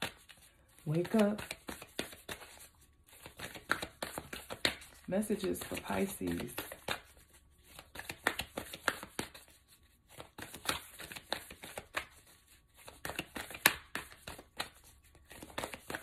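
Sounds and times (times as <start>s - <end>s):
cards being shuffled: 0.0s - 16.0s.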